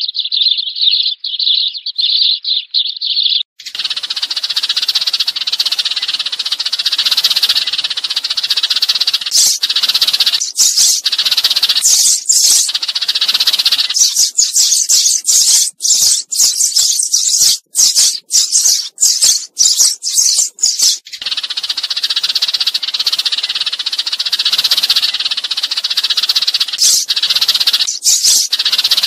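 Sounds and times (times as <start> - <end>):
sparrows chirping: 0.0 - 29.0.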